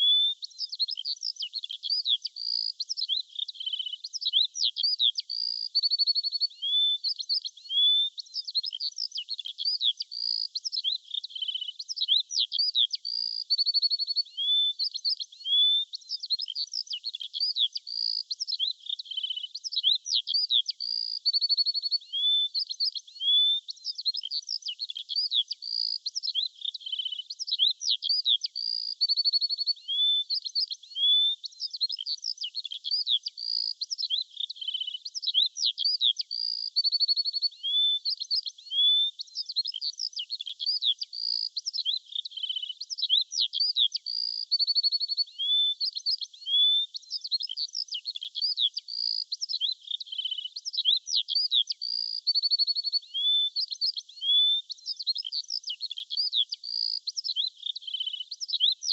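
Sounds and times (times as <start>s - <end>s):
songbirds chirping and trilling: 0.0s - 58.9s.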